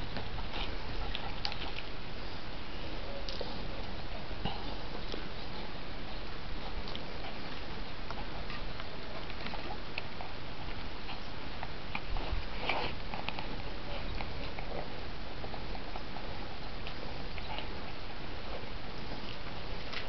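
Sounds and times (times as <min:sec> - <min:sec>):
puppies scuffling and sniffing: 0:00.0 - 0:02.4, 0:03.2 - 0:20.0.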